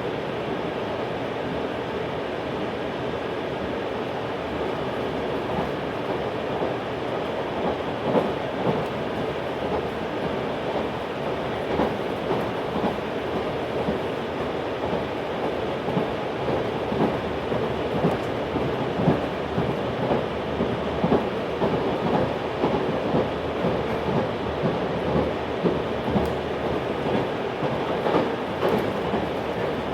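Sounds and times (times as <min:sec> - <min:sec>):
train running rumble: 0:04.2 - 0:29.9.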